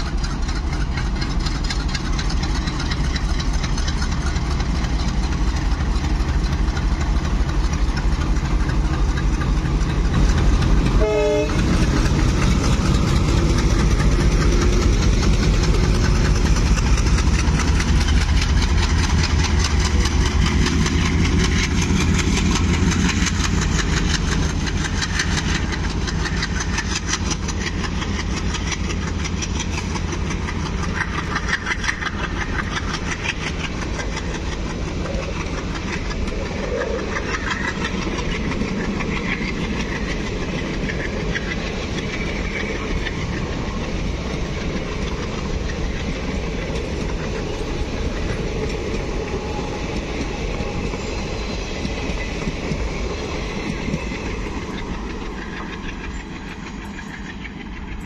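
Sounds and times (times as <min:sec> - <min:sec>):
diesel locomotive engines: 0:00.0 - 0:58.0
train wheels clickety-clack: 0:00.0 - 0:58.0.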